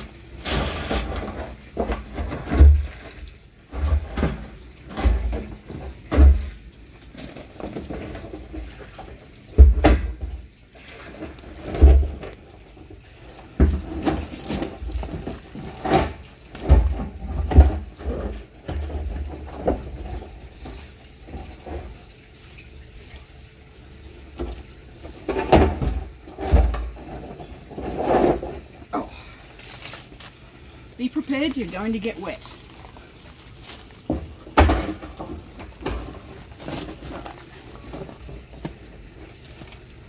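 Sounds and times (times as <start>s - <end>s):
water sloshing in plastic drum: 0.0s - 40.0s.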